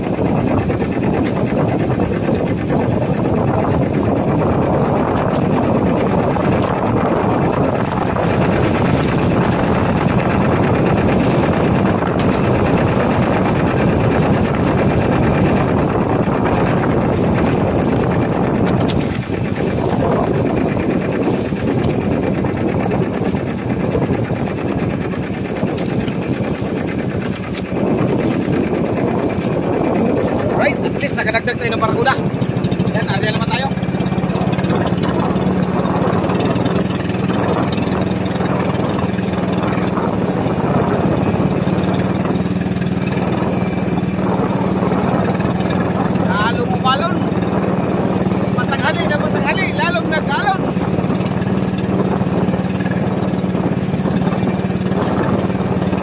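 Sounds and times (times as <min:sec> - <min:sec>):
boat engine drone: 0:00.0 - 0:56.0.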